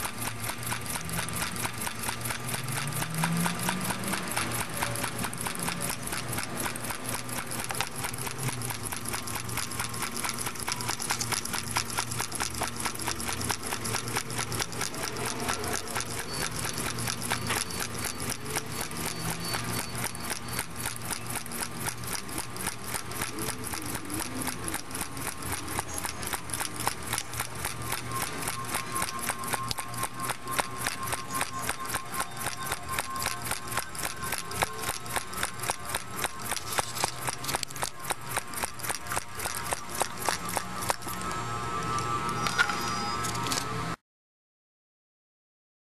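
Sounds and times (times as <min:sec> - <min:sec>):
small engine ticking: 0:00.0 - 0:43.6.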